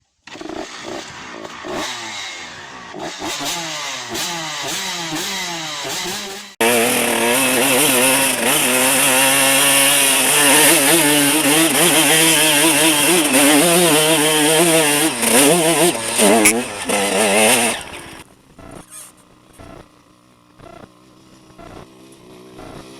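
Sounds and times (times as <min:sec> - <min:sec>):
motorcycle engine running: 0:00.3 - 0:22.9
motorcycle engines revving: 0:00.3 - 0:22.9.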